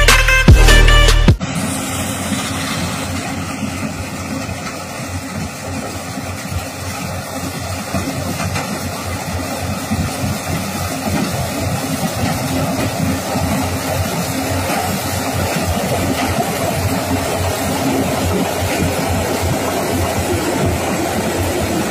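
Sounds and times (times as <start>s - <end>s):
combine harvester running: 0.0s - 21.9s.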